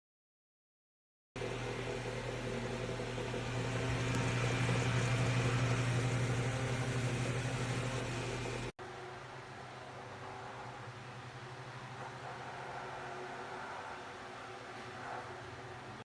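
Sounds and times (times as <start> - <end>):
fan air rushing: 1.4 - 16.0
table fan motor hum: 1.4 - 16.0.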